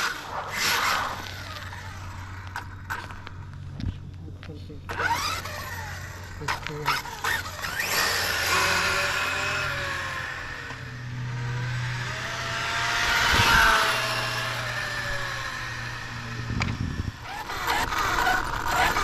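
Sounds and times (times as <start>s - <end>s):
rc car motor revving: 0.0s - 3.6s, 4.9s - 19.0s.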